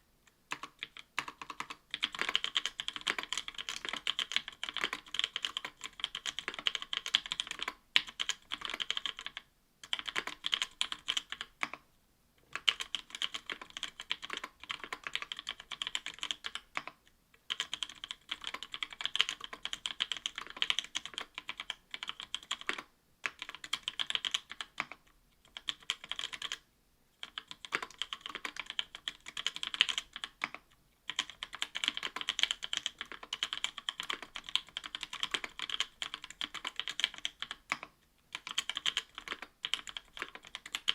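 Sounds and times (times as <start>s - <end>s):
typing on mechanical keyboard: 0.5s - 11.8s, 12.5s - 26.6s, 27.2s - 40.9s.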